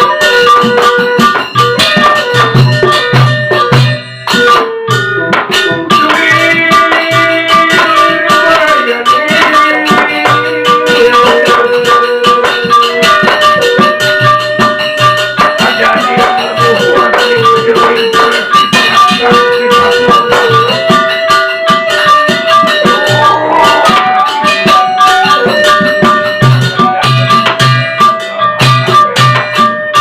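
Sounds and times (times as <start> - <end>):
gamelan ensemble playing: 0.0 - 30.0.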